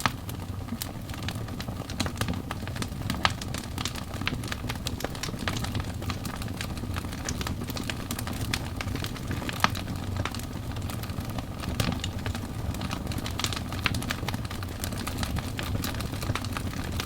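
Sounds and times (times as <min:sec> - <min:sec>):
burning logs crackling: 0:00.0 - 0:17.0
low rush of flames: 0:00.0 - 0:17.0.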